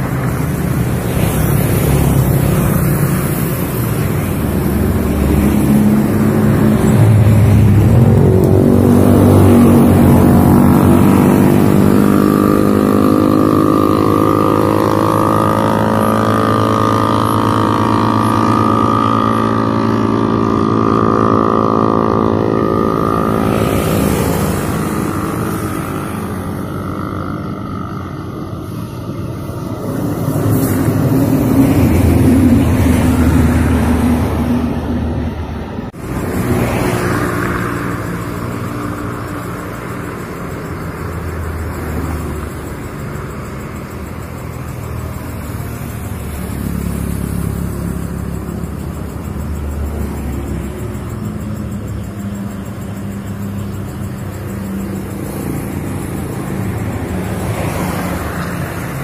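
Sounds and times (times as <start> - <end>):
cars driving past: 0.0 - 59.0
engine pitched hum: 0.0 - 59.0.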